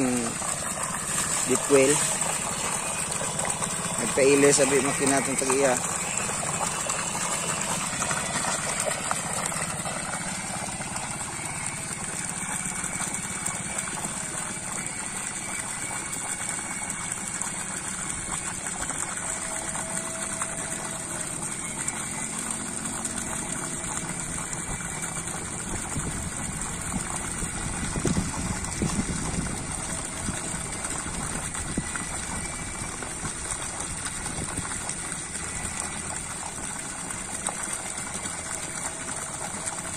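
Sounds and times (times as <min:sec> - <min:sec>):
low pump hum: 0:00.0 - 0:39.9
water gushing into a plastic drum: 0:00.0 - 0:39.9.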